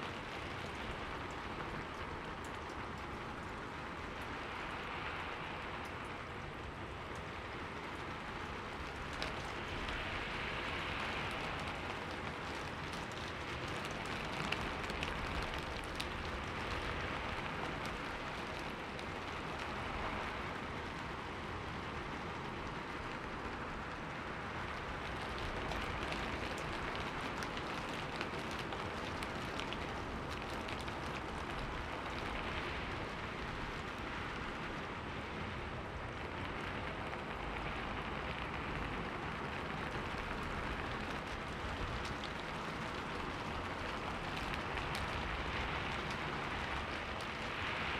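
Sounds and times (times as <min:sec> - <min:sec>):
steady rain pattering: 0:00.0 - 0:47.9.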